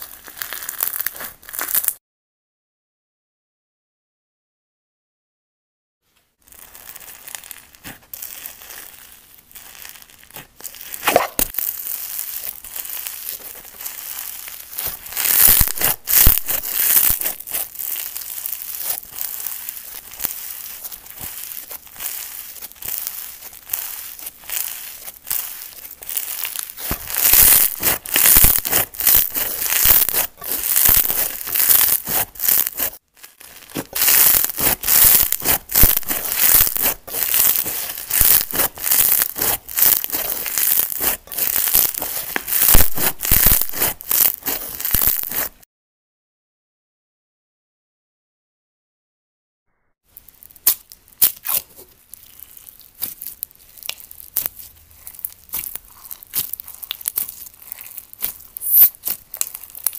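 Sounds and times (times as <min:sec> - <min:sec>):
slime crackling and crinkling: 0:00.0 - 0:02.0, 0:06.3 - 0:45.6, 0:50.1 - 0:59.9
slime tearing: 0:00.0 - 0:02.0, 0:06.4 - 0:45.6, 0:50.1 - 0:59.9.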